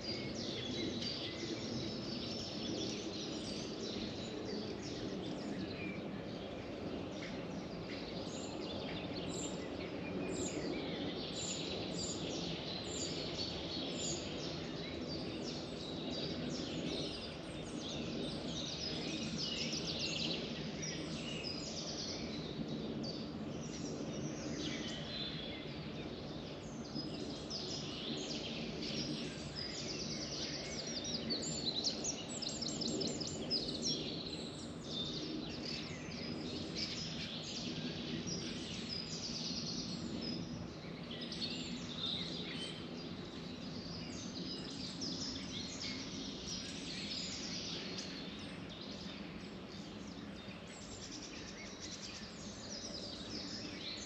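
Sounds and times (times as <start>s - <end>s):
wild birds singing chorus: 0.0s - 54.0s.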